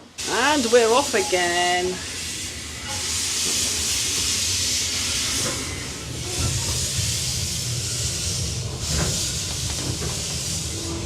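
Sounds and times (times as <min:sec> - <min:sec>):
steam hissing: 0:00.0 - 0:11.0
train rumbling: 0:00.0 - 0:11.0.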